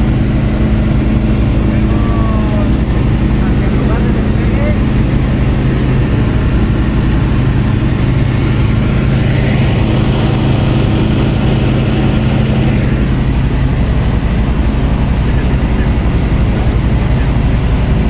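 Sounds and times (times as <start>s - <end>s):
light aircraft engine drone: 0.0s - 18.0s.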